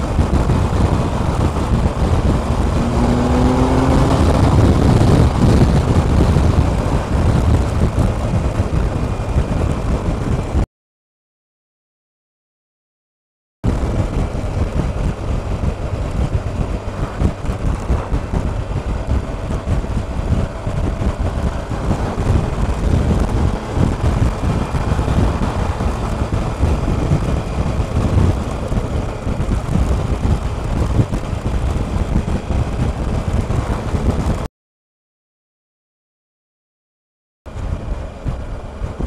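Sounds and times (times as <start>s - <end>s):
faint motorcycle engine: 0.0s - 10.6s, 13.7s - 34.4s
wind rushing over microphone: 0.0s - 10.6s, 13.6s - 34.5s, 37.5s - 39.0s.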